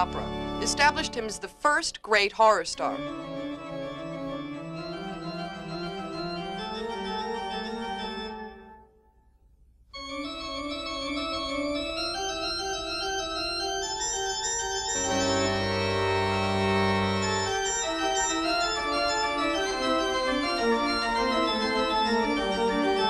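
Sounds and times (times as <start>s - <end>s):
organ playing held chords: 0.0s - 1.4s, 2.8s - 8.9s, 10.0s - 23.0s.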